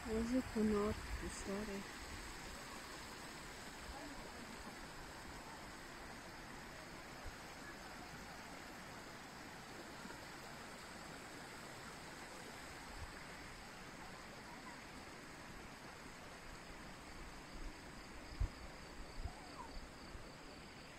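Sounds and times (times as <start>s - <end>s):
mountain stream rushing: 0.0s - 18.2s.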